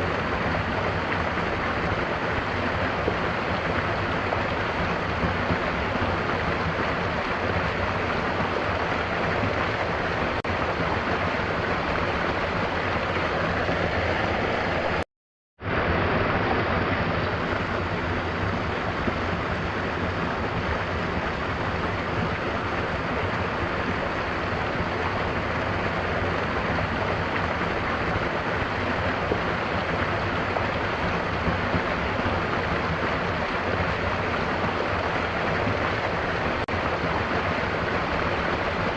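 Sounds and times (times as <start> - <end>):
waterfall rushing: 0.0 - 15.0, 15.7 - 38.9.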